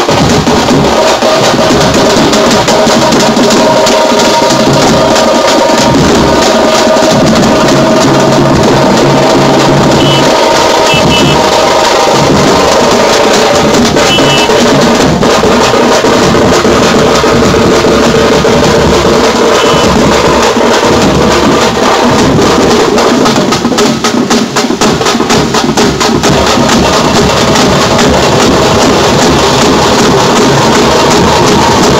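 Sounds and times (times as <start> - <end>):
frame drums and stick drums: 0.0 - 31.9.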